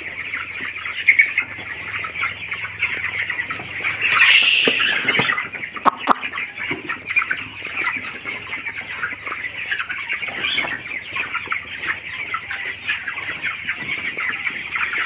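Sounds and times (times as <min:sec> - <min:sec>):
chicks peeping and cheeping: 0:00.0 - 0:15.0.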